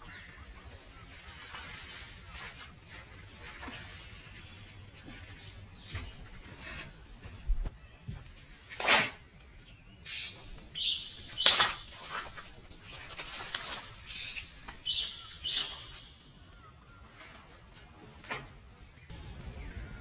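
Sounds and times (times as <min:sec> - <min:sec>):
bird chirping: 0:00.0 - 0:08.0, 0:09.6 - 0:20.0.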